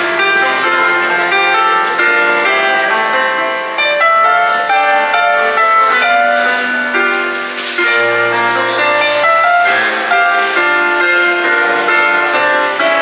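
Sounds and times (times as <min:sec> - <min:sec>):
electronic keyboard melody: 0:00.0 - 0:13.0.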